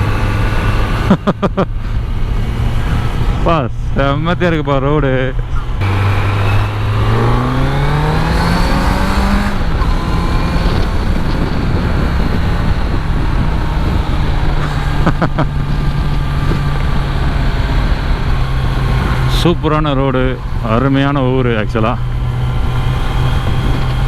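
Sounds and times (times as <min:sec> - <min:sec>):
motorcycle engine accelerating: 0:00.0 - 0:24.0
wind rushing over microphone: 0:00.0 - 0:24.0.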